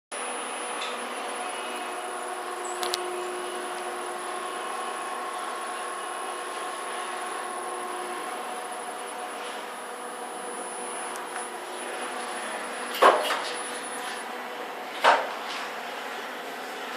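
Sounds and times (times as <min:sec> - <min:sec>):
elevator machine whine: 0:00.2 - 0:16.9.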